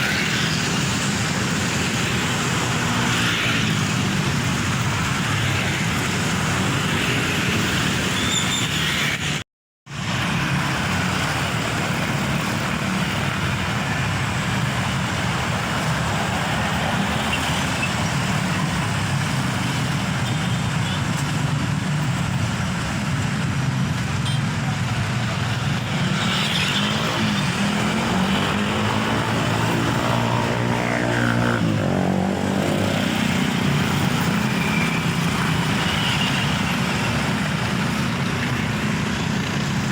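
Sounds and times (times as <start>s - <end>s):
road traffic noise: 0.0s - 39.9s.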